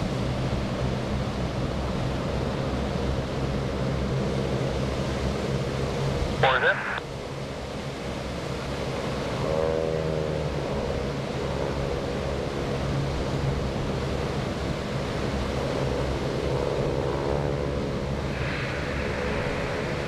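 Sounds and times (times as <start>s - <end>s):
propeller planes droning overhead: 0.0s - 20.0s.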